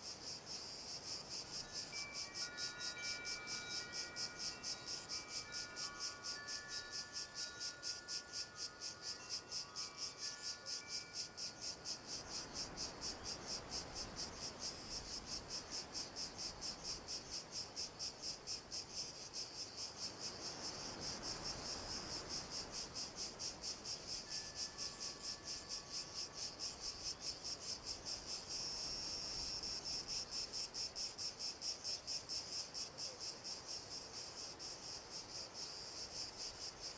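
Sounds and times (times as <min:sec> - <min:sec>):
cricket chirping: 0:00.0 - 0:36.9.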